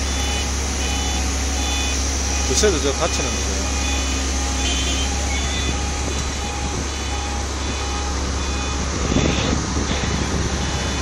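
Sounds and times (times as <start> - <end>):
low engine drone: 0.0 - 11.0
warning beeper pulses: 0.0 - 11.0.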